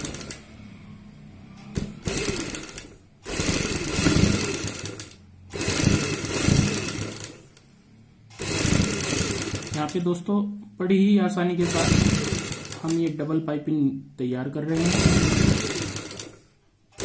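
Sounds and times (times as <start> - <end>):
sewing machine stitching: 0.0 - 10.3, 11.5 - 13.4, 14.6 - 17.0.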